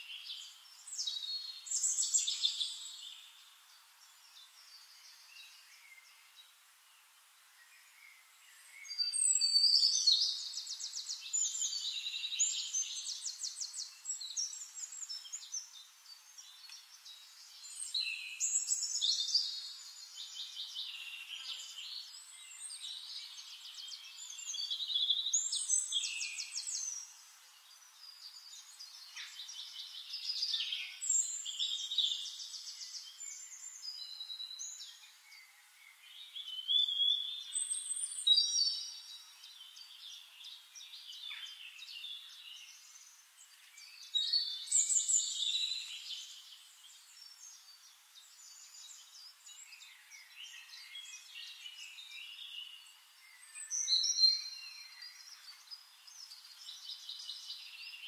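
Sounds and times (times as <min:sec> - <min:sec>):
songbirds trilling and chirping: 0:00.0 - 0:58.0.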